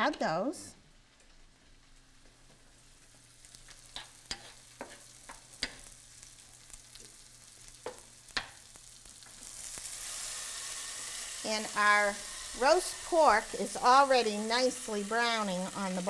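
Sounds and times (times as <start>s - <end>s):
meat sizzling in a pan: 1.0s - 16.0s.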